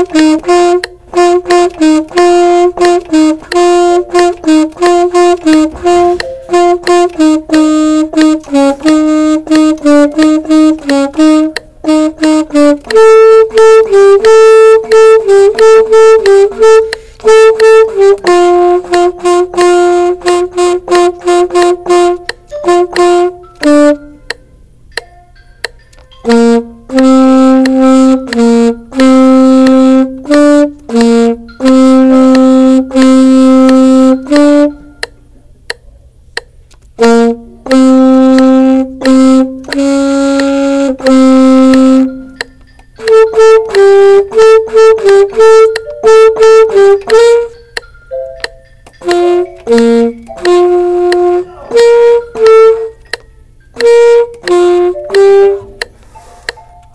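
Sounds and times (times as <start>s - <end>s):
solo saxophone melody: 0.0s - 24.4s, 26.2s - 35.4s, 37.0s - 47.6s, 48.3s - 56.5s.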